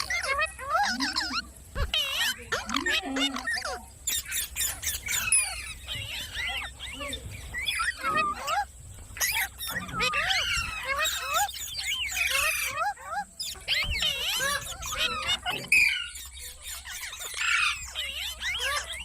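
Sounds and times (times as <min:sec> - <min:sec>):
parrot squealing and chirping: 0:00.0 - 0:19.0.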